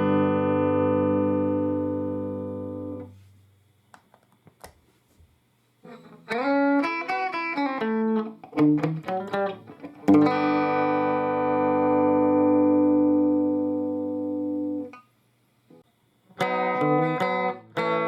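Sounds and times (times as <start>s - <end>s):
electric guitar through amplifier: 0.0s - 3.2s, 5.8s - 15.0s, 15.8s - 18.0s.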